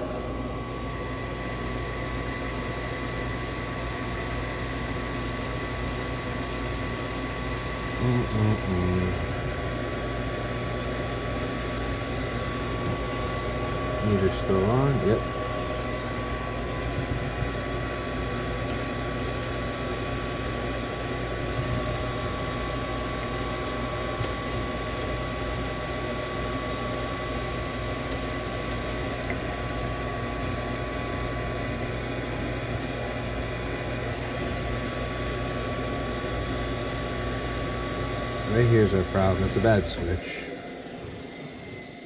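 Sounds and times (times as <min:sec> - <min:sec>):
furnace inducer motor humming: 0:00.0 - 0:42.0.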